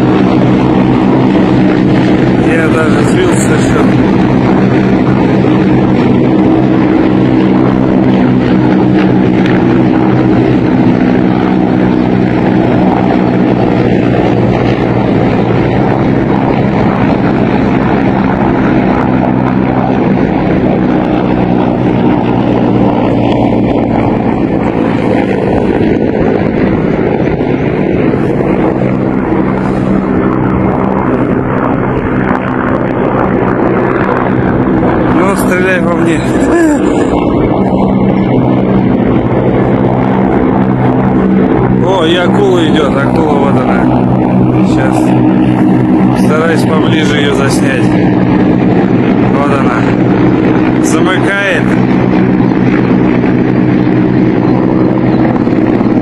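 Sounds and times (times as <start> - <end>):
helicopters flying overhead: 0.0 - 56.0.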